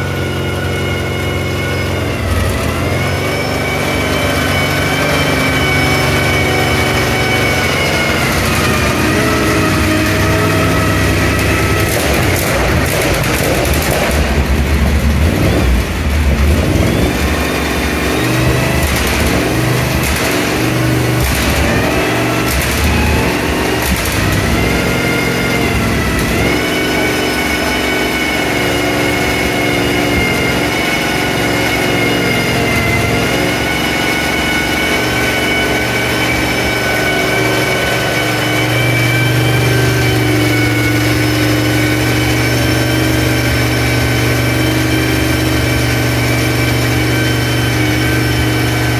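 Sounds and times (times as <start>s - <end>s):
race car engine idling: 0.0s - 48.9s
steady high whine: 0.0s - 48.9s.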